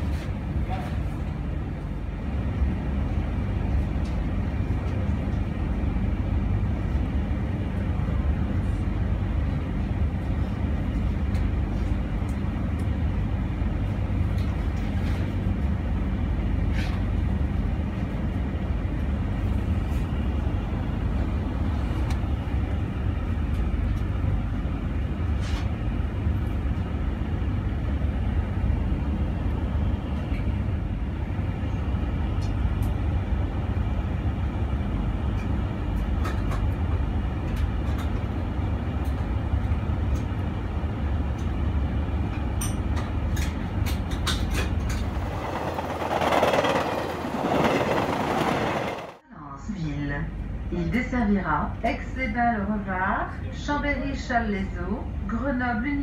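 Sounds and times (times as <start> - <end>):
train carriage rumble and hum: 0.0 - 56.0.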